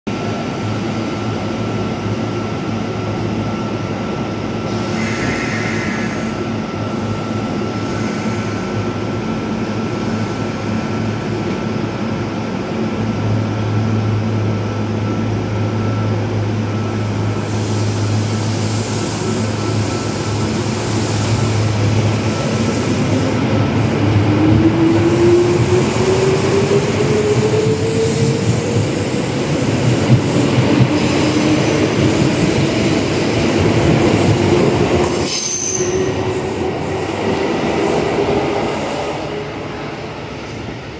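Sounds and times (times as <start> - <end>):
electric train humming: 0.2 - 40.9.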